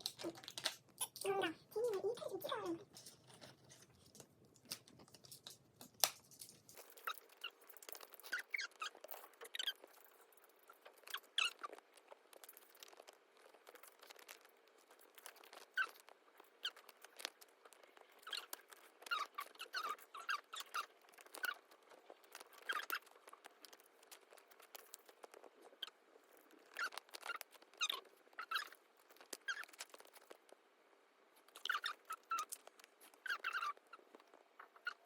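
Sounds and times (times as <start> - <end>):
plastic packaging crinkling: 0.0 - 30.6
plastic squeaks: 0.0 - 30.6, 31.4 - 35.0.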